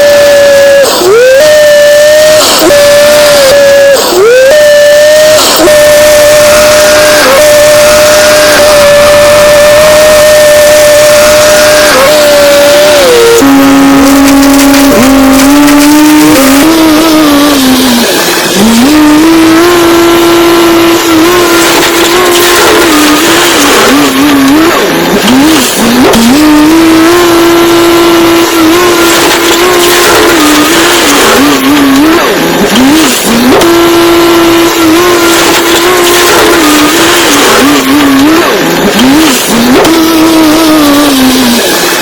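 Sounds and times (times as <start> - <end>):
loud engine revving: 0.0 - 42.0.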